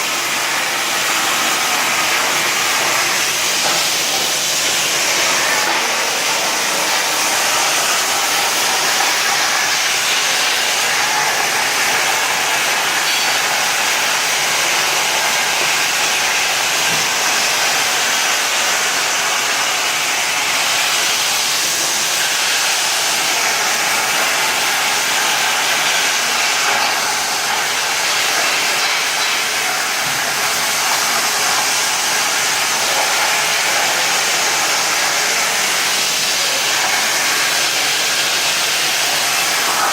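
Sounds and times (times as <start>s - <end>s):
plasma cutter torch hissing: 0.0s - 39.9s.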